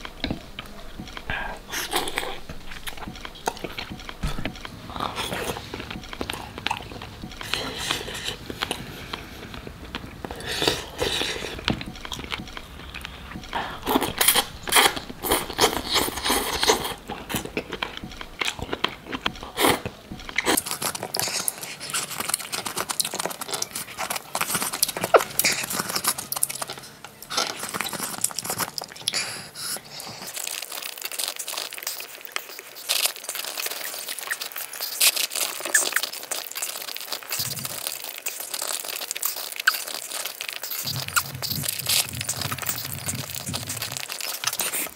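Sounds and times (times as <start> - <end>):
wet chewing and crunching: 0.0 - 44.9.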